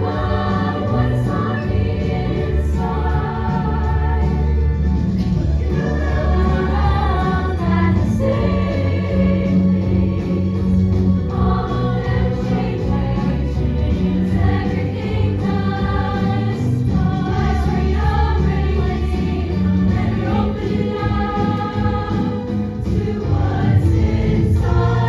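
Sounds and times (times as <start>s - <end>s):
chorus of young women singing: 0.0s - 25.0s
instrumental music with strong bass: 0.0s - 25.0s.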